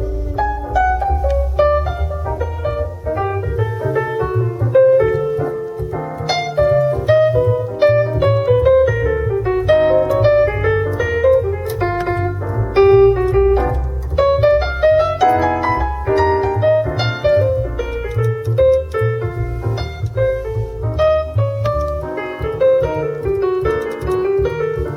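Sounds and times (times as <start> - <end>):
busy piano line: 0.0 - 24.9
deep heavy bass line: 0.0 - 24.9
piano trio music on car speakers: 0.0 - 24.9.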